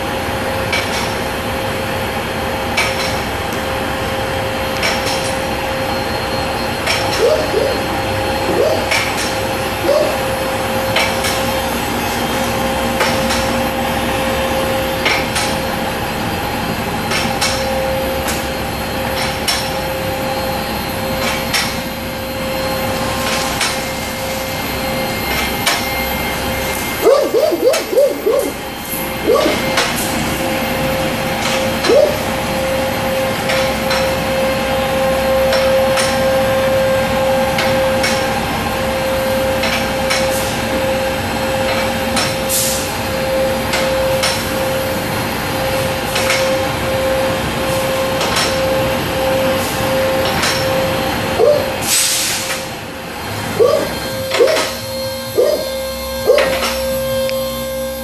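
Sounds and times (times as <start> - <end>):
hydraulic pump humming: 4.7 - 58.0.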